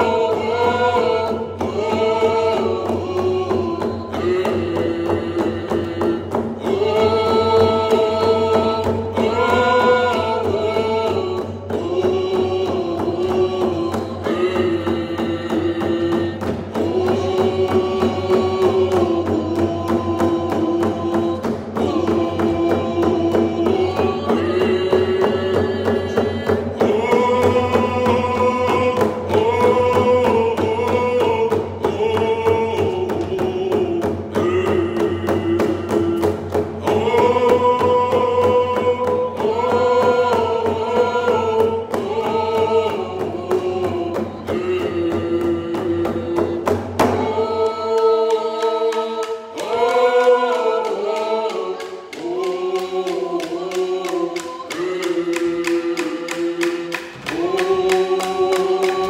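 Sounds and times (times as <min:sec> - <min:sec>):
frame drums beating: 0:00.0 - 0:59.0
group of voices singing: 0:00.0 - 0:59.0.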